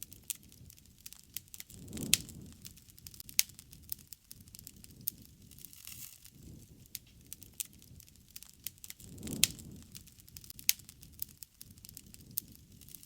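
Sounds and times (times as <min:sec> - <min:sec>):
soft rush of flame: 0:00.0 - 0:13.0
wood fire crackling and popping: 0:00.0 - 0:13.0.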